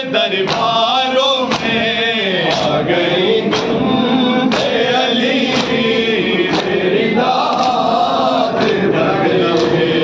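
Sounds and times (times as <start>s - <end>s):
men chanting in chorus: 0.0s - 10.0s.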